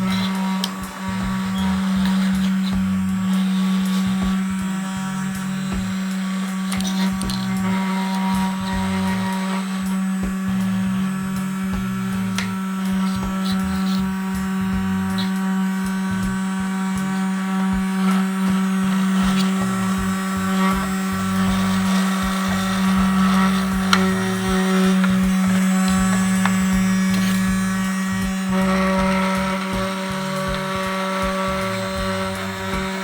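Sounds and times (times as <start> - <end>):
toy vacuum motor humming: 0.0 - 33.0.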